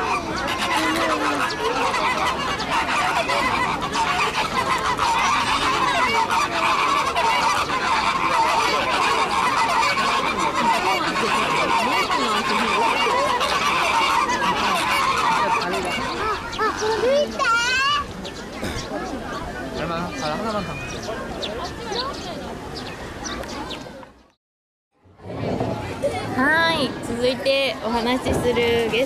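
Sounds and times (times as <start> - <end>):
flock of flamingos honking: 0.0 - 23.9.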